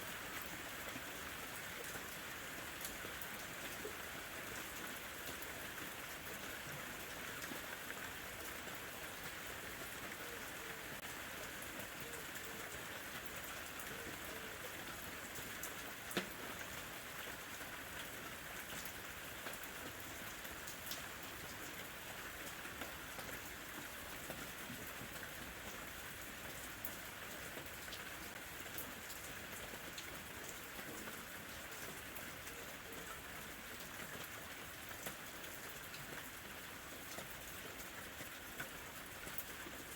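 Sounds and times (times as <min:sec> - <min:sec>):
light rain falling: 0:00.0 - 0:39.9
raindrops pattering on a surface: 0:00.1 - 0:39.9.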